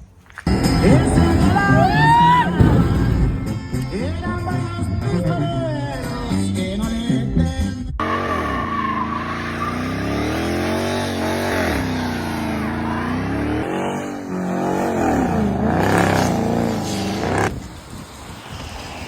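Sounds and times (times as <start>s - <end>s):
car engine revving: 0.4s - 7.3s, 8.0s - 19.0s.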